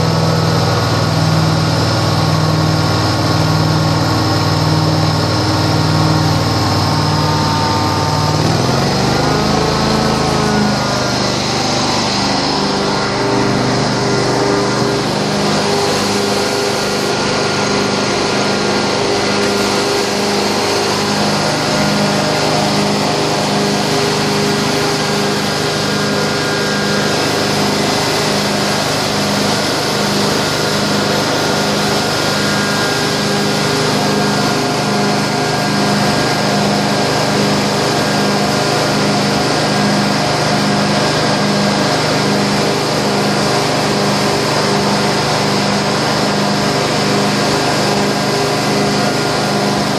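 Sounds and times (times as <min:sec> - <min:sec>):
carpet cleaning tool motor hum: 0:00.0 - 0:49.9.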